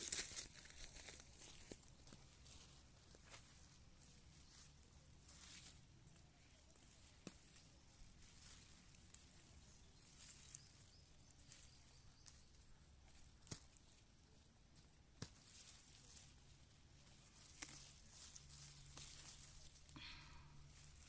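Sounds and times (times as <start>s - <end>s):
leaves rustling: 0.0s - 21.0s.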